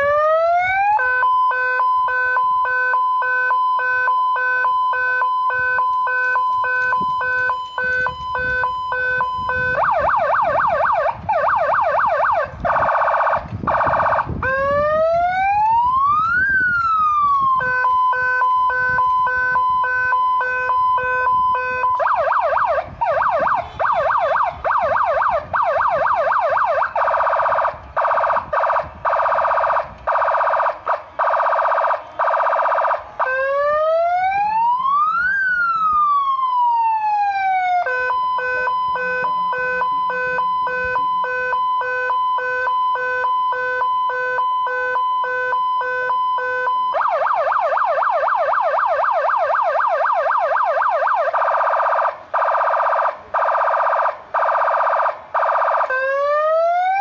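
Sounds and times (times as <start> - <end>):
electronic siren: 0.0 - 57.0.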